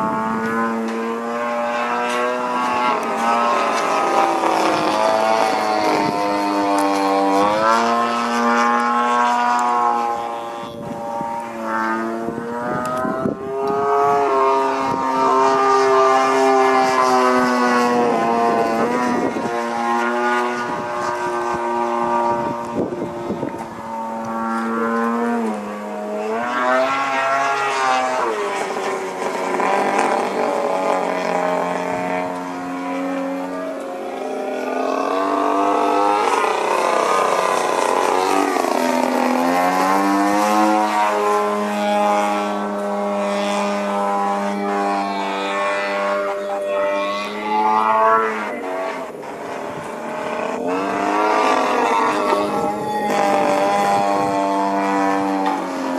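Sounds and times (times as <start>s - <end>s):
model airplane engine and propeller: 0.0s - 55.9s.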